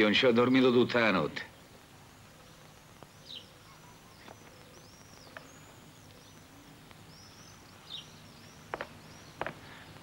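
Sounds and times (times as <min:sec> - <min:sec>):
low outdoor hum: 0:00.0 - 0:10.0
faint bird chirps: 0:01.4 - 0:10.0.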